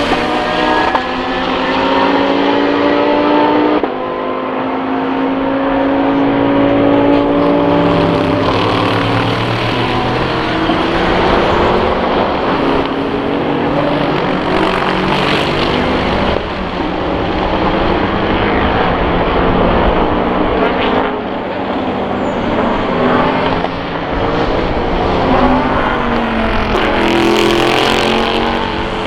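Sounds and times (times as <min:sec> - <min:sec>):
racing cars accelerating: 0:00.0 - 0:29.0.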